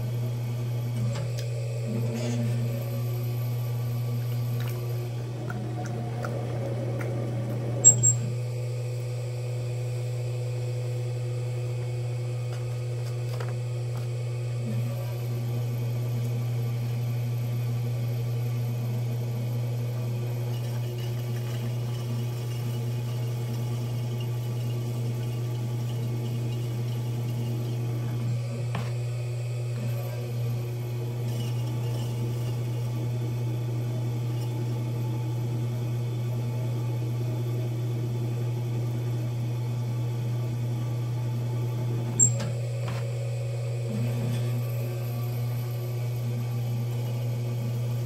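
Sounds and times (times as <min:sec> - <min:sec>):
potter's wheel humming: 0:00.0 - 0:48.0.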